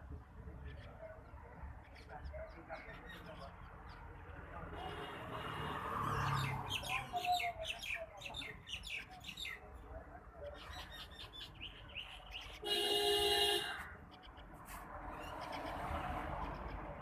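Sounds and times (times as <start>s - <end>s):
small birds chirping: 0.1s - 4.8s, 6.1s - 17.0s.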